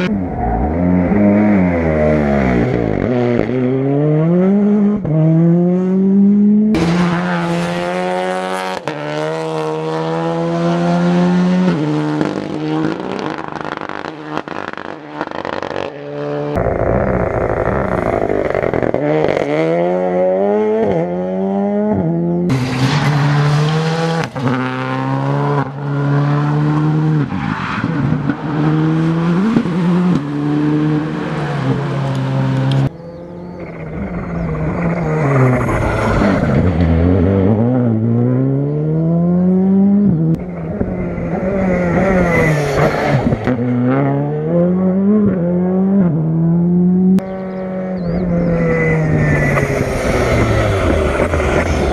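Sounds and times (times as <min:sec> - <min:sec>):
cars passing: 0:00.0 - 0:51.9
rally cars revving hard: 0:00.0 - 0:51.9.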